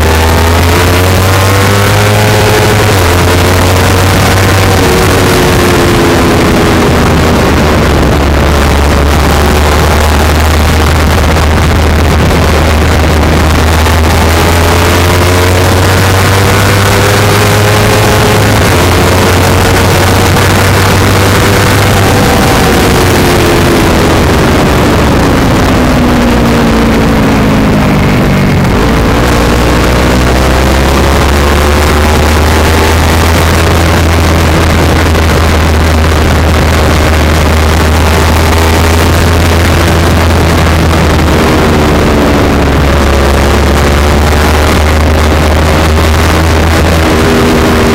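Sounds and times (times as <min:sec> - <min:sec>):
motorcycle engine exhaust: 0:00.0 - 0:47.9
wind and road noise: 0:00.0 - 0:47.9.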